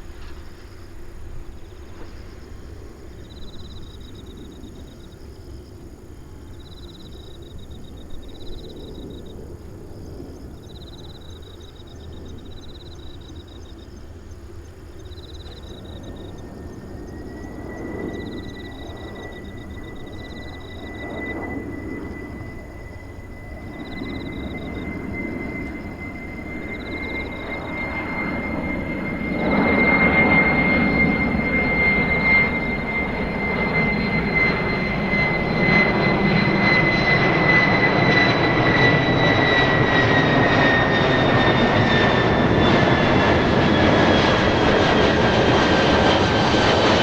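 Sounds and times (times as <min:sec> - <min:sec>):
distant jet airliner rumble: 0:00.0 - 0:47.0
high jet engine whine: 0:00.0 - 0:47.0
insects trilling: 0:00.0 - 0:47.0.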